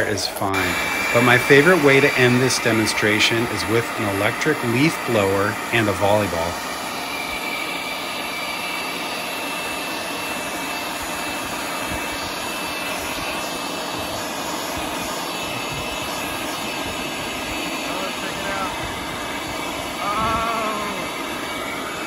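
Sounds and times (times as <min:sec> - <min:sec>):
high motor whine: 0:00.0 - 0:22.0
leaf blower air rush: 0:00.0 - 0:22.0.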